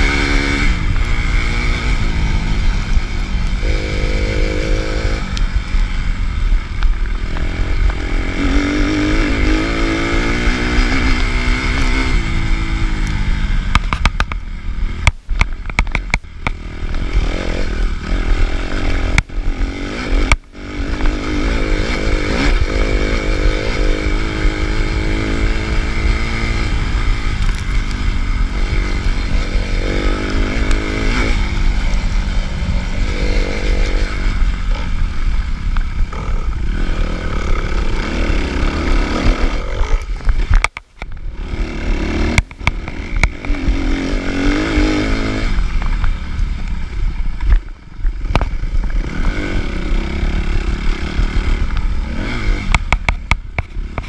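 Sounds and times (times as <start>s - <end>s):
motocross engine revving: 0.0s - 13.8s, 16.0s - 47.2s, 48.2s - 54.0s.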